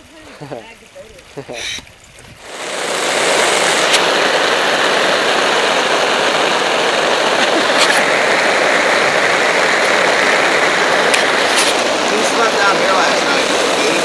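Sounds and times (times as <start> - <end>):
rain on a tarp: 0.0 - 14.0.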